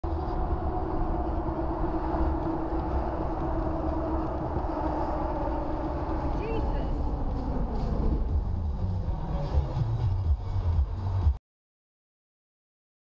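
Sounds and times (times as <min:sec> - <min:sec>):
car road and engine rumble: 0:00.0 - 0:11.4
steady hum: 0:00.0 - 0:11.4.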